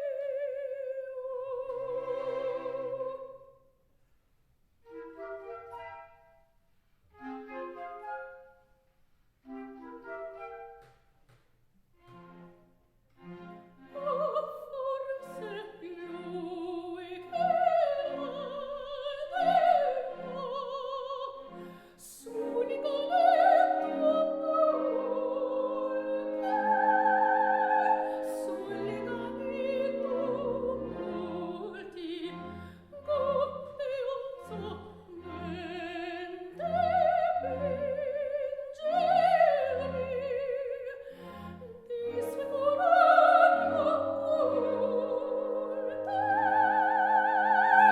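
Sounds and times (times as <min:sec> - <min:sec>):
operatic classical music: 0:00.0 - 0:03.7, 0:04.6 - 0:47.9.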